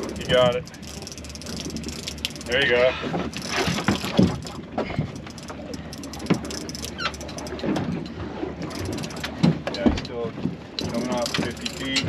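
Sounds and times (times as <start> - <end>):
outboard motor idling: 0.0 - 12.0
sharp clicks and knocks: 0.0 - 12.0.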